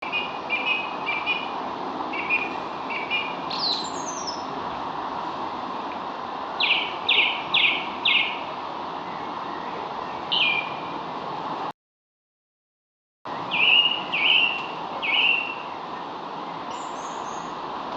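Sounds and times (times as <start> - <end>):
songbirds chirping: 0.0 - 11.1, 13.3 - 17.8.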